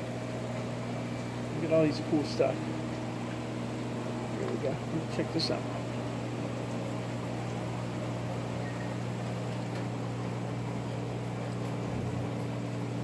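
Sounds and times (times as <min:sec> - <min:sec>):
aquarium filter and air pump hiss: 0:00.0 - 0:13.0
low electric hum: 0:00.0 - 0:13.0.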